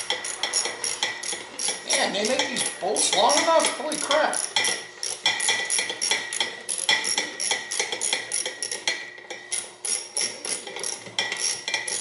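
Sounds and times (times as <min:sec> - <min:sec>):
wrench clicking on metal bolt: 0:00.0 - 0:12.0.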